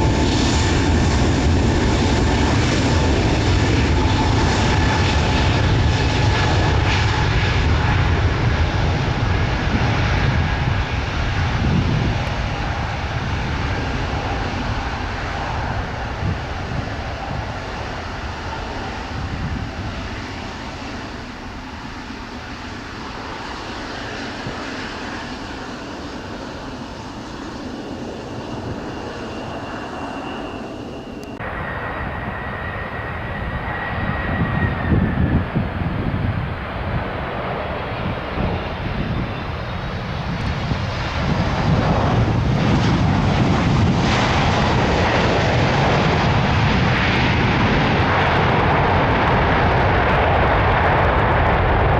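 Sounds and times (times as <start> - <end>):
jet engines on takeoff: 0.0 - 51.9.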